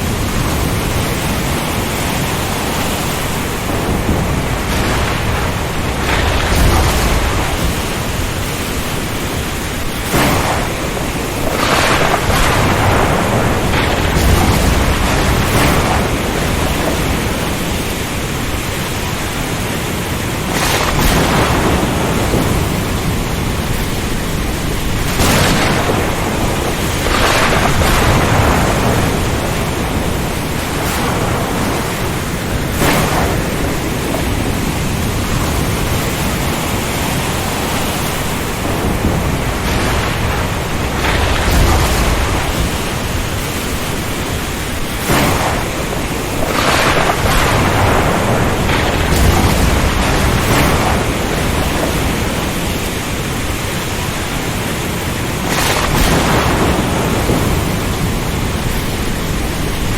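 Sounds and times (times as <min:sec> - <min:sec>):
deep thunder rumbles: 0:00.0 - 0:59.9
rain: 0:00.0 - 0:59.9
surf: 0:00.0 - 0:59.9
wind: 0:00.0 - 0:59.9.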